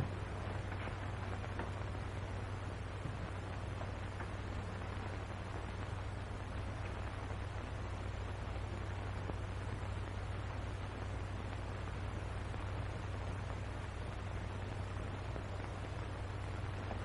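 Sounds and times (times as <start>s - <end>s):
film soundtrack hiss: 0.0s - 17.0s
low constant hum: 0.0s - 17.0s.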